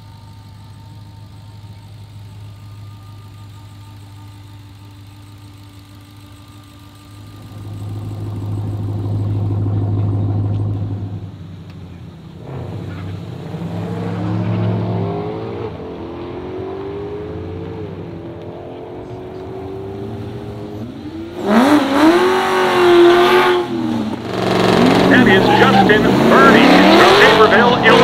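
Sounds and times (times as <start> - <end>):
engine running heard from inside cab: 0.0 - 15.0, 17.2 - 28.0
engines accelerating outside: 0.0 - 28.0.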